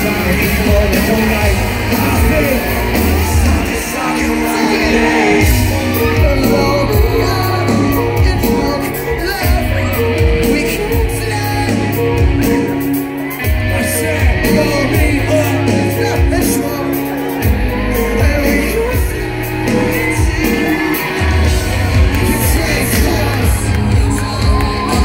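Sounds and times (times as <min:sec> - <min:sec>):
crowd shouting along: 0:00.0 - 0:25.0
live rock music: 0:00.0 - 0:25.0
person singing: 0:00.0 - 0:25.0.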